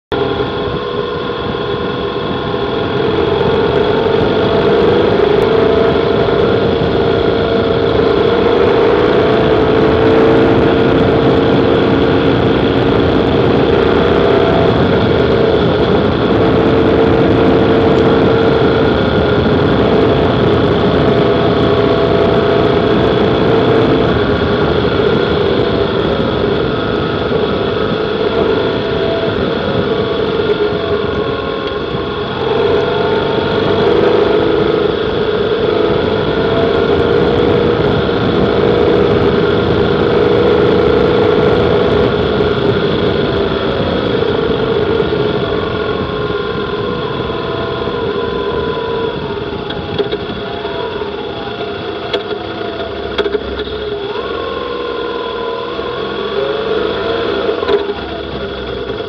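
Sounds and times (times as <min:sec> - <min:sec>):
motorcycle engine running: 0:00.0 - 0:59.0
tyres on gravel road: 0:00.0 - 0:59.0
wind noise: 0:00.1 - 0:59.0.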